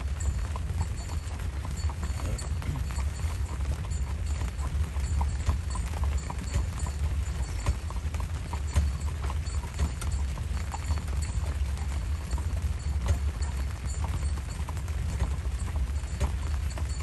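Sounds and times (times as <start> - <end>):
hooves clip-clopping on pavement: 0.0 - 17.0
steady low rumble: 0.0 - 17.0.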